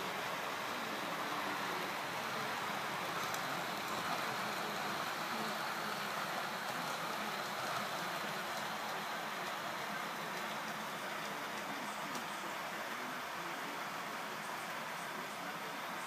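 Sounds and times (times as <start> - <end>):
model train motor whirring on rails: 0.0 - 16.0.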